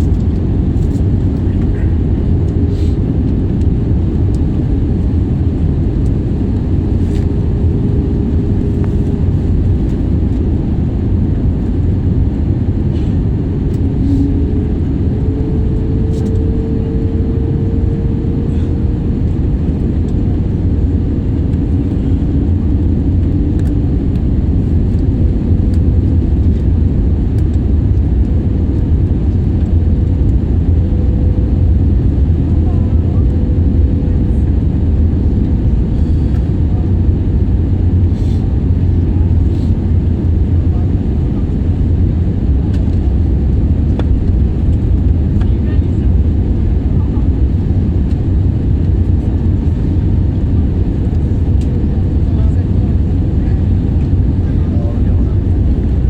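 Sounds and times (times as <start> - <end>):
jet airliner engines rumbling: 0.0 - 56.0.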